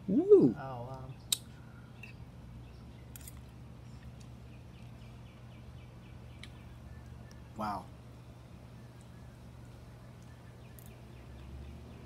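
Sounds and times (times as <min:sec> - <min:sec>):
low steady hum: 0:00.0 - 0:12.0
bird chirps: 0:00.2 - 0:07.8, 0:08.5 - 0:12.0.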